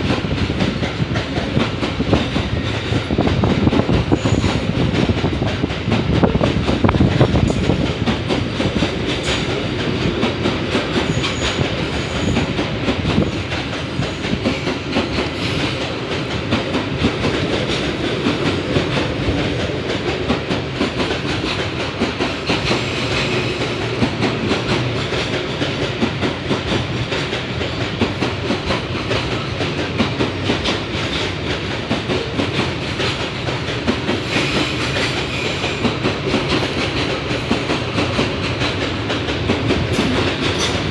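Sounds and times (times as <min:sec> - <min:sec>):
train wheels clicking over rail joints: 0:00.0 - 0:40.9.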